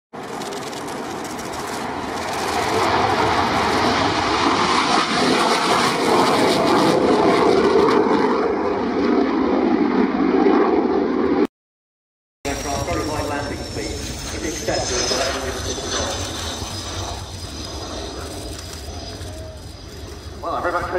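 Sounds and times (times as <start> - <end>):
jet engine roar: 0.2 - 11.5, 12.5 - 20.9.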